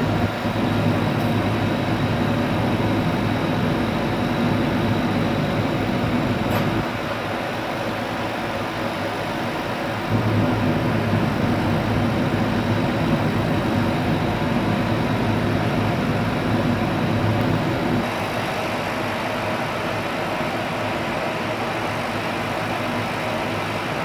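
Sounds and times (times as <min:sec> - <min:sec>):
laser cutting machine hum: 0:00.0 - 0:24.0.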